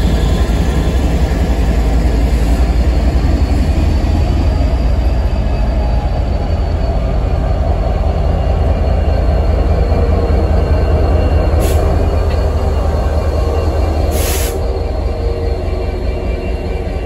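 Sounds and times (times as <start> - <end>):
diesel locomotive engine rumble: 0.0 - 17.0
train wheels rolling on rails: 0.0 - 17.0.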